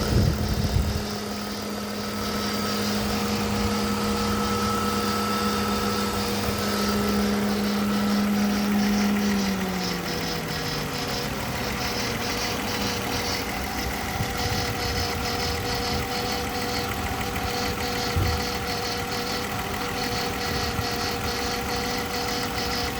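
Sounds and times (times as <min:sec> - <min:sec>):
car engine idling: 0:00.0 - 0:22.9
high-pitched ticking: 0:00.0 - 0:22.9.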